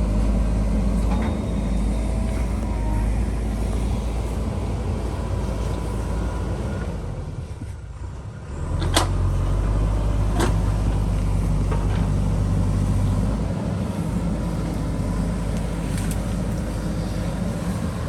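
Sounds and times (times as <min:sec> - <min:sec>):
diesel engine revving: 0:00.0 - 0:18.0.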